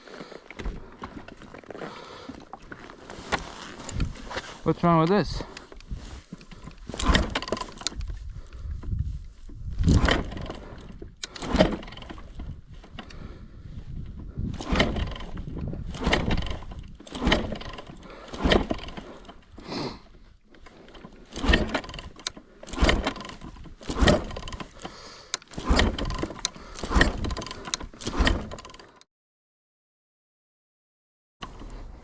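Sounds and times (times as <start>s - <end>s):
dirt bike kick-start thumps: 3.3s - 29.0s.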